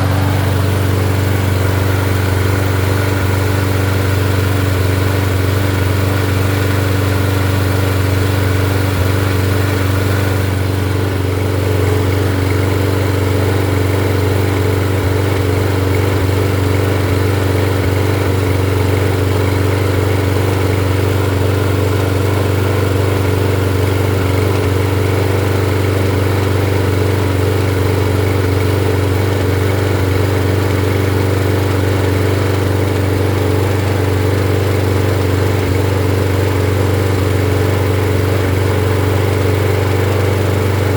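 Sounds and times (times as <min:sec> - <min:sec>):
lawnmower engine running: 0:00.0 - 0:40.9.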